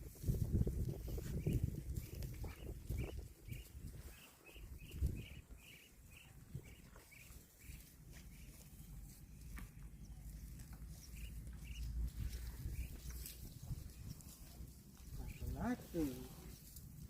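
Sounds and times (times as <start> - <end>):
small bird chirping: 0.6 - 16.2.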